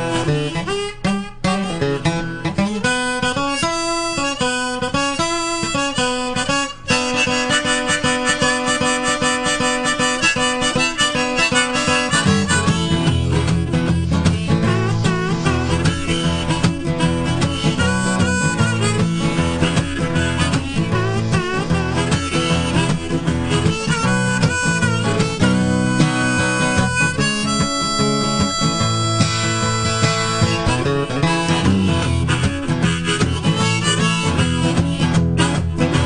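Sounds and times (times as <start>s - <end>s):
blues harmonica: 0.0s - 36.0s
guitar accompaniment: 0.0s - 36.0s.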